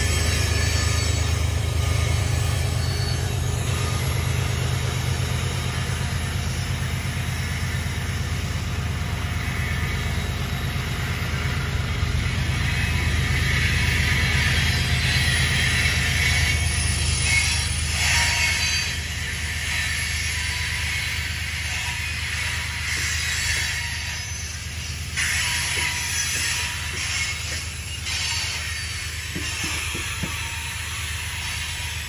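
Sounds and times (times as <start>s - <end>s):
diesel locomotive engine rumble: 0.0s - 32.0s
wheel-on-rail noise: 0.0s - 32.0s.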